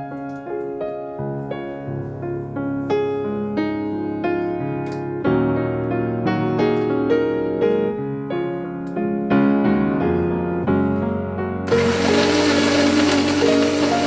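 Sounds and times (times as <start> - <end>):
piano melody with chords: 0.0 - 14.0.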